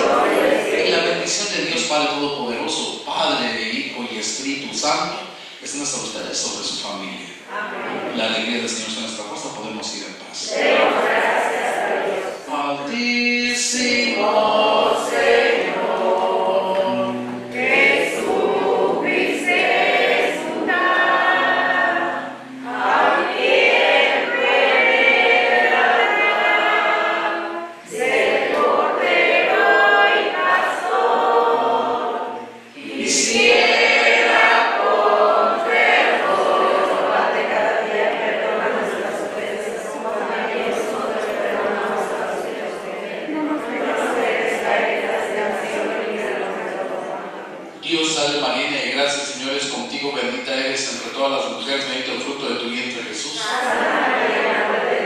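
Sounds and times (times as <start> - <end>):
group singing a hymn: 0.0 - 6.5, 7.1 - 55.0.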